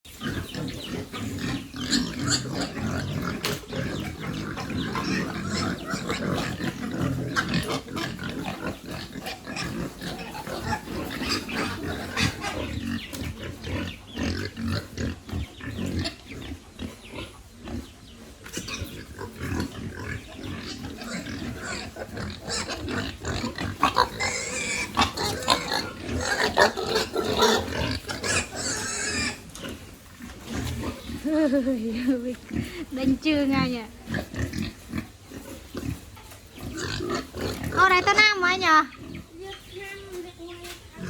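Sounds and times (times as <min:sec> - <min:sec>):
pigs grunting and snuffling: 0:00.1 - 0:41.0.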